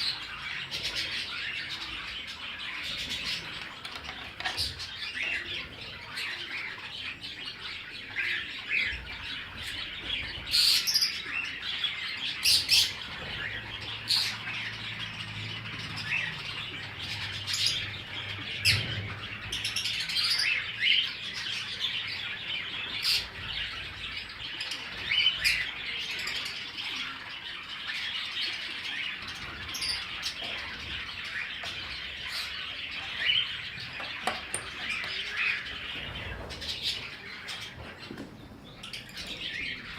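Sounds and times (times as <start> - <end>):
cage birds chattering: 0.0 - 39.9.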